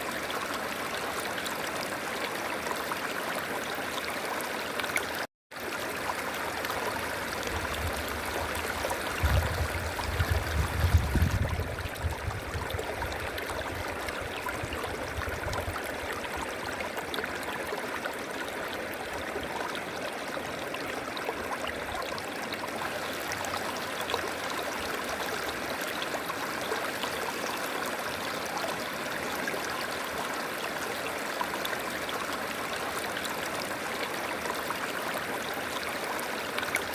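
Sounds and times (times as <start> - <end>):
stream flowing over rocks: 0.0 - 36.9.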